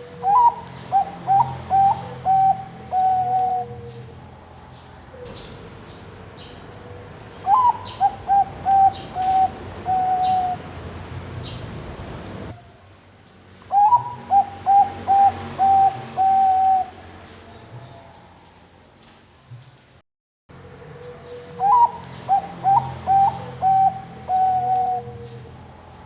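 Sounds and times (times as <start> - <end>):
dove cooing: 0.0 - 12.6, 13.7 - 17.2, 20.6 - 26.0.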